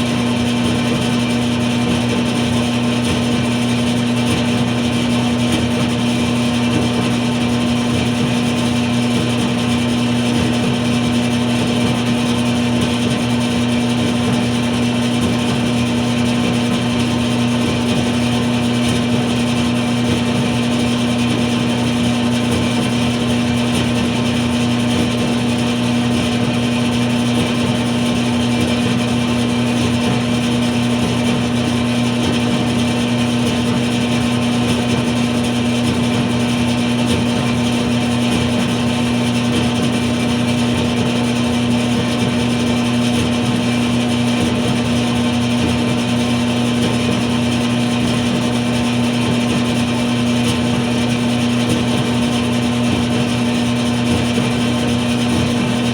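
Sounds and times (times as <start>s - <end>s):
clothes dryer running: 0.0s - 55.9s.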